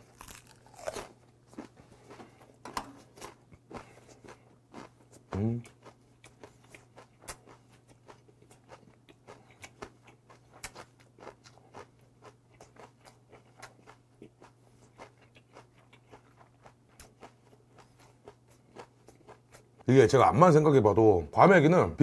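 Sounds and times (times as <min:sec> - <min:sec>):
person chewing: 0:00.0 - 0:19.8.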